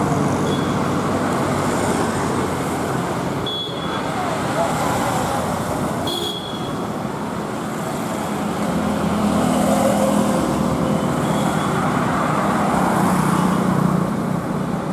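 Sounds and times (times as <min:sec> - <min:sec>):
vehicles passing on road: 0:00.0 - 0:14.9.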